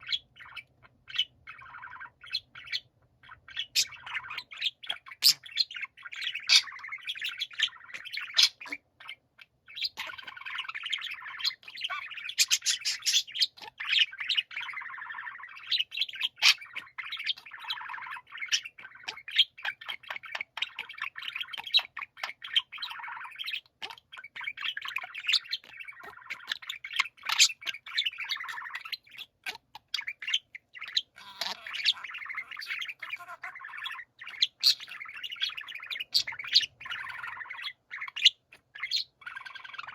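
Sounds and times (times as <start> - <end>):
budgerigars warbling: 0.0 - 39.9.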